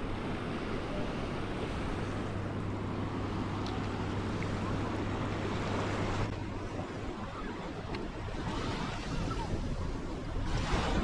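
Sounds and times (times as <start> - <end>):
small waves washing onto sand: 0.0 - 11.0
steady low hum: 0.0 - 11.0
wind buffeting microphone: 0.0 - 11.0.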